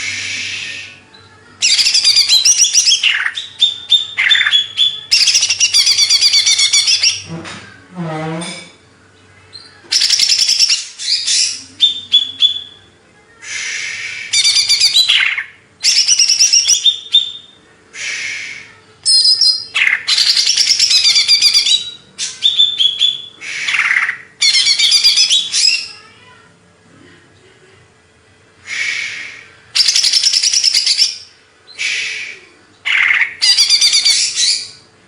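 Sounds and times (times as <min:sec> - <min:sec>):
bird singing chirps and trills: 0:00.0 - 0:07.4, 0:08.4 - 0:26.1, 0:29.8 - 0:31.9, 0:32.8 - 0:34.9.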